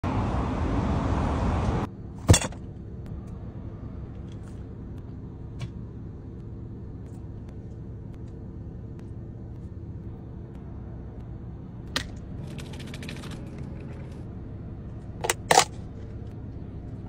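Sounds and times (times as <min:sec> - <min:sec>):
car interior engine hum: 0:00.0 - 0:17.0.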